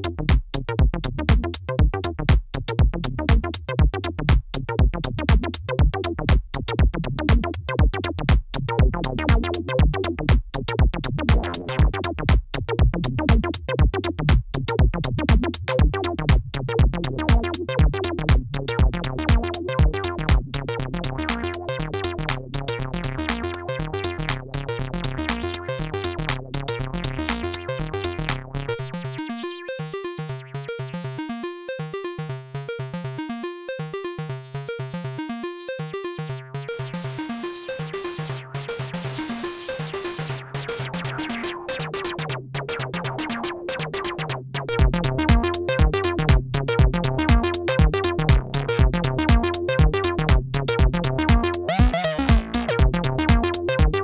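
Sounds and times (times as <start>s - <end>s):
synthesizer bass sequence: 6.0s - 12.4s, 15.0s - 54.0s.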